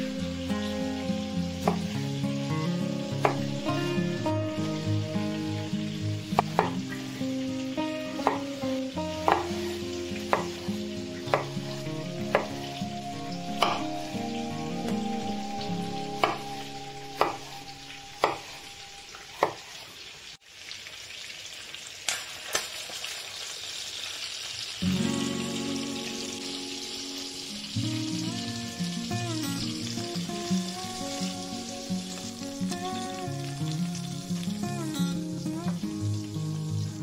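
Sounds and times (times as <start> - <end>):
background music with held chords: 0.0 - 19.1, 24.8 - 37.0
steady sizzling hiss: 0.0 - 37.0.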